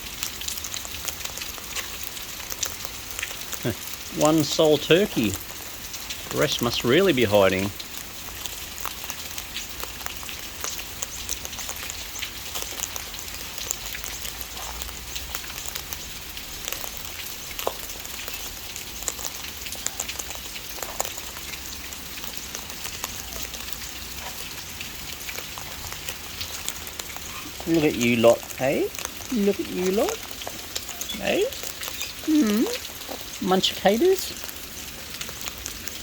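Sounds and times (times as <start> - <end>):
rain on a hard surface: 0.0 - 36.0.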